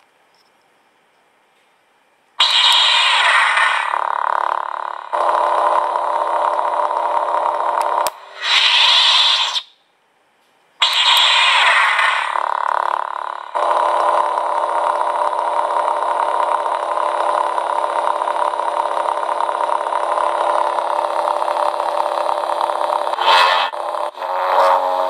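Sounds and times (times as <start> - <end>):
lightsaber buzzing hum: 2.4 - 9.8, 10.8 - 25.0
lightsaber ignition: 2.4 - 9.8, 10.8 - 25.0.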